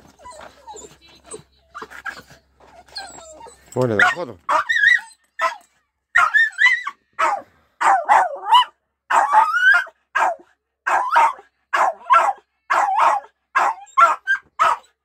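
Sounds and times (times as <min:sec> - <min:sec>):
dog barking and whining: 0:00.0 - 0:15.0.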